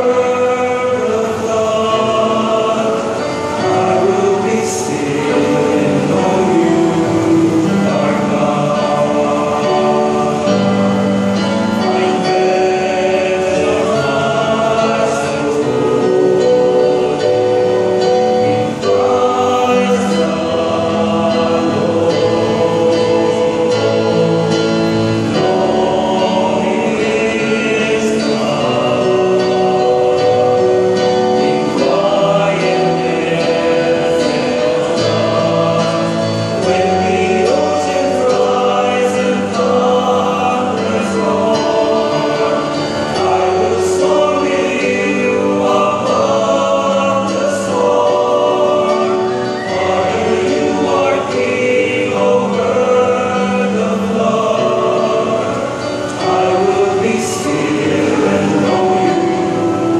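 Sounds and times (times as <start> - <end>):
male choir singing in harmony: 0.0 - 59.9.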